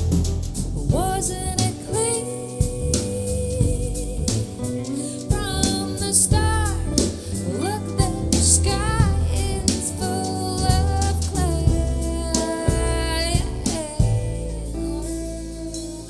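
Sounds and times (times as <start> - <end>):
soul jazz music: 0.0 - 16.0.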